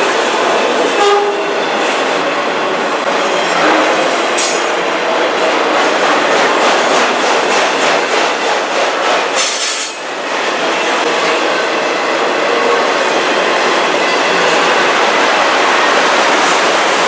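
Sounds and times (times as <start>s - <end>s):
train wheels clacking on rails: 0.0s - 17.0s.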